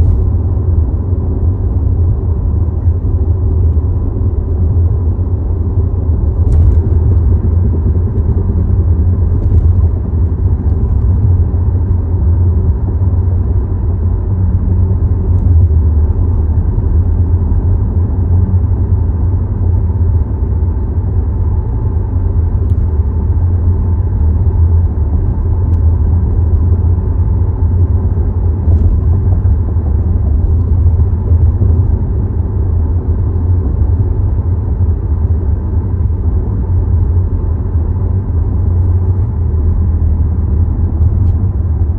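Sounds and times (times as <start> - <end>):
car low rumble and vibration: 0.0 - 41.9.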